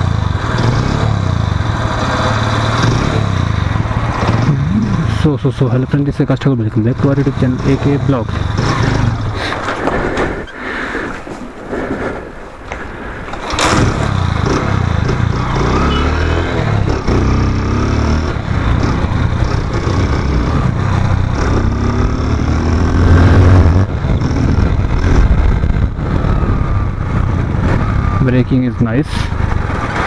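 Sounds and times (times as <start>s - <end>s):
motorcycle engine revving: 0.0s - 6.1s, 6.8s - 10.4s, 13.4s - 30.0s.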